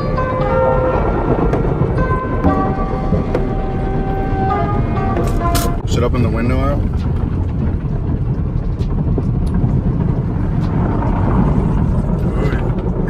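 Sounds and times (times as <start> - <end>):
car wash rumble: 0.0 - 13.0.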